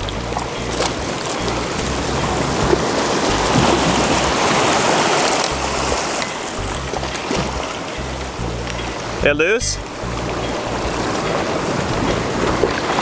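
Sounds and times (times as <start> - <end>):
music with stepping bass line: 0.0 - 4.5, 5.5 - 12.8
steady rushing noise: 0.0 - 13.0.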